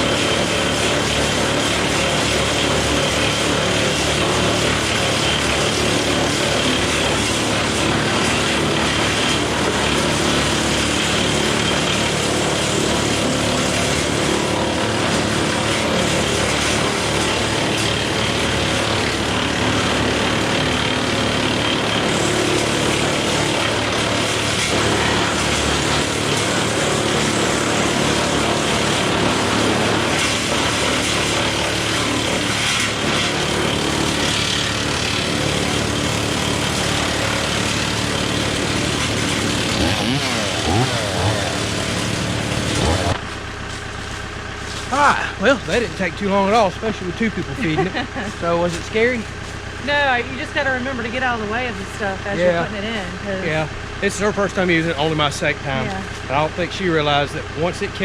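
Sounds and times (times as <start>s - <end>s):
wood chipper and tractor running: 0.0s - 58.0s.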